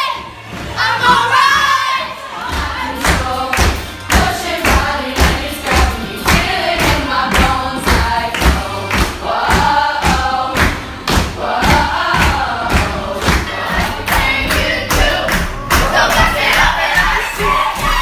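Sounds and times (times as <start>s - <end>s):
singing voices: 0.0s - 18.0s
music with thumping beat: 0.1s - 18.0s.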